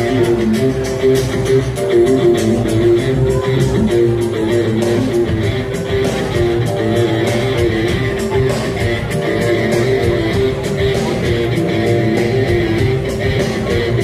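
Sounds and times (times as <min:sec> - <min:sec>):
music with steady beat: 0:00.0 - 0:14.0.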